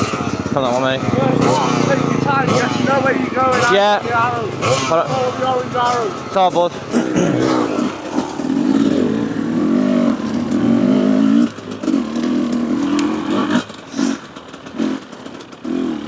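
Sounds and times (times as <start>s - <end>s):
two-stroke motorbike engine: 0.0s - 16.0s.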